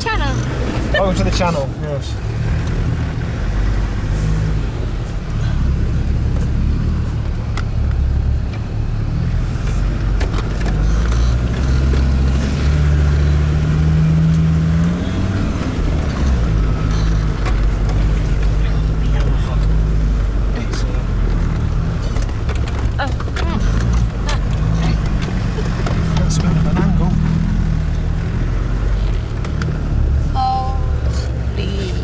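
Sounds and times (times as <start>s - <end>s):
engine rumbling at low revs: 0.0s - 32.0s.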